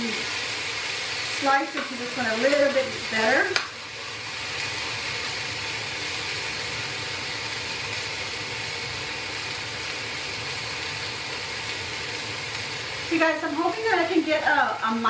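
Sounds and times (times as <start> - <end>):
chicken sizzling on a grill: 0.0 - 15.0.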